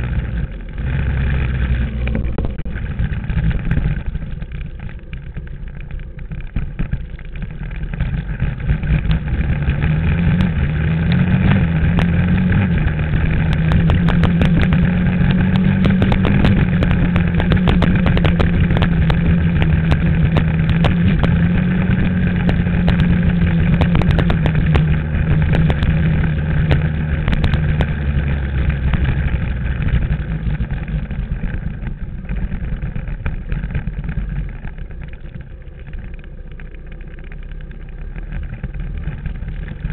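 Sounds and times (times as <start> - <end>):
bike jolting over ruts: 0.0 - 39.9
dirt bike engine: 0.0 - 39.9.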